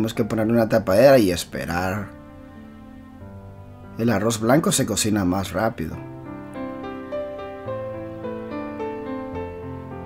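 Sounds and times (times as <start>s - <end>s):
slow melody of held notes: 0.0s - 10.0s.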